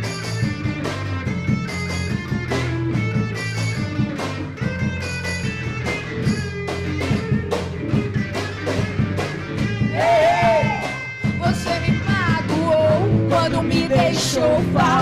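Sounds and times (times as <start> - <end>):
electric guitar: 0.0 - 15.0
rock band playing: 0.0 - 15.0.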